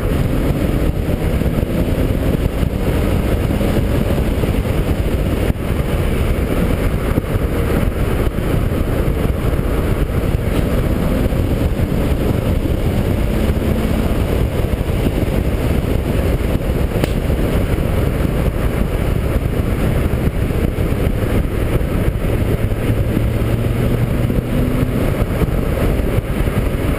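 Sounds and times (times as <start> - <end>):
faint car engine running: 0.0 - 26.9
wind buffeting: 0.0 - 26.9.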